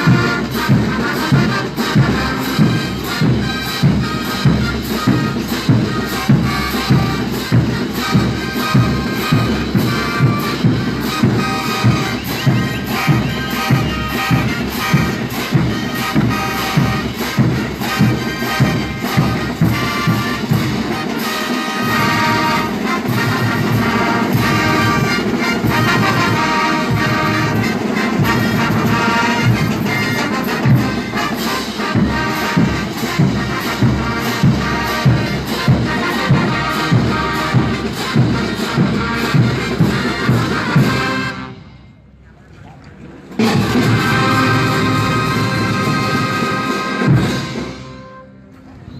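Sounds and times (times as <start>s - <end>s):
brass band music: 0.0s - 42.1s, 43.4s - 48.9s.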